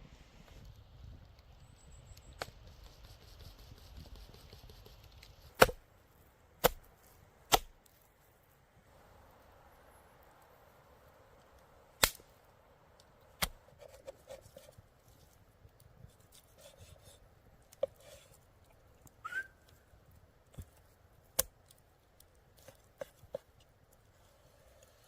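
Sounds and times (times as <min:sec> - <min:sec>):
faint steady background noise: 0:00.0 - 0:25.0.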